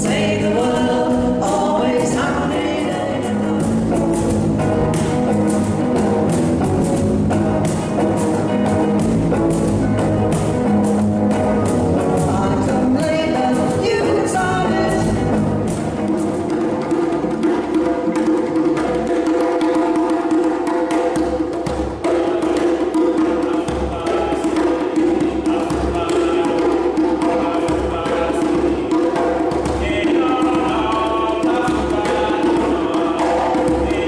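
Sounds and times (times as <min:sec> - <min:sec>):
hand drumming: 0:00.0 - 0:34.0
live band music: 0:00.0 - 0:34.0.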